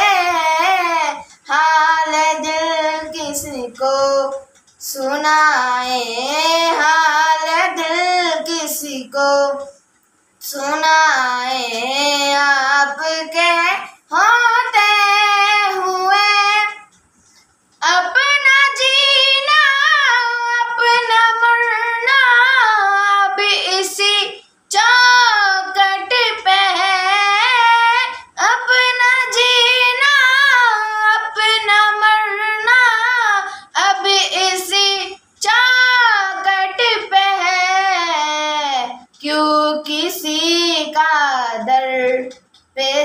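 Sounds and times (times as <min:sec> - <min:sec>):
boy singing unaccompanied: 0:00.0 - 0:09.8, 0:10.4 - 0:17.0, 0:17.8 - 0:43.0.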